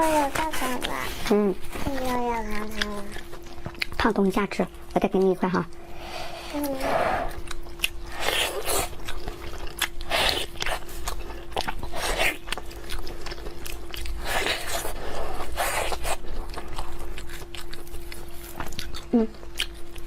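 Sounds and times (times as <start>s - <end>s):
faint steady hum: 0.0s - 20.0s
person chewing crunchy food: 0.4s - 20.0s.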